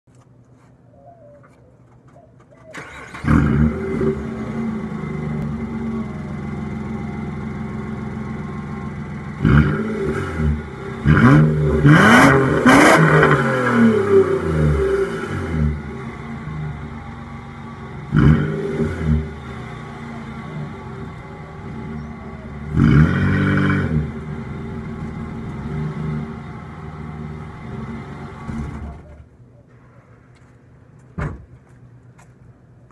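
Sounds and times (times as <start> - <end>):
car engine idling and revving: 2.9 - 29.3.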